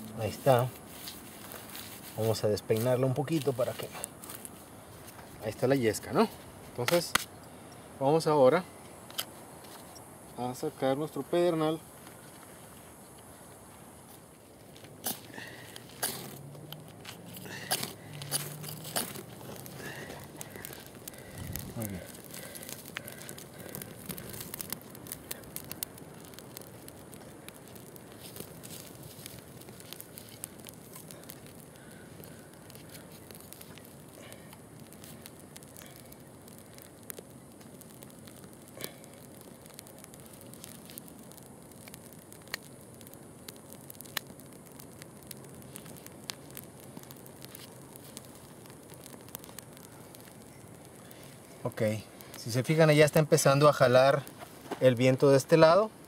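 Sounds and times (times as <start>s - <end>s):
small fire crackling: 0.0s - 56.0s.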